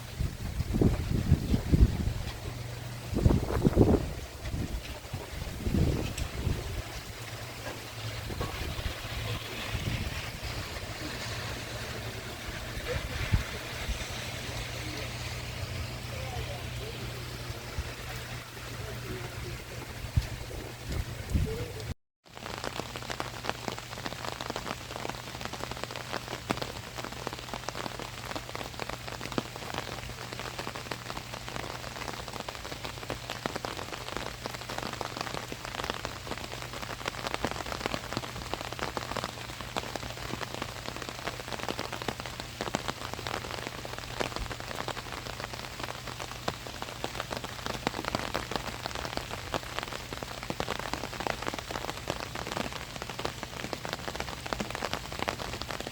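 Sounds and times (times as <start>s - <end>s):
rain pattering on umbrella: 0.0s - 55.9s.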